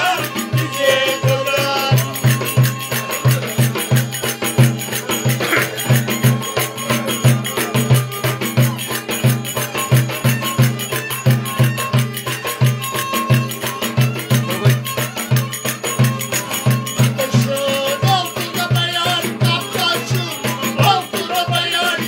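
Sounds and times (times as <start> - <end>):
fast drum beat: 0.0 - 22.0
folk melody: 0.0 - 22.0
jingling percussion: 0.0 - 22.0.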